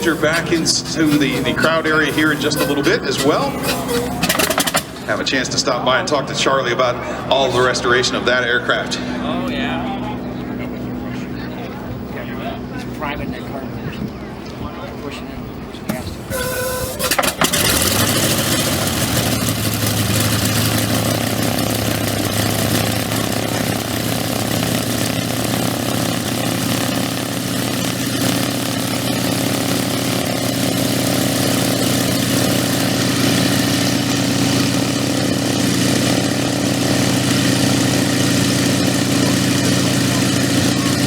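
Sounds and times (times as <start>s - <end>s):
engine starting and running loudly: 0.0s - 41.0s.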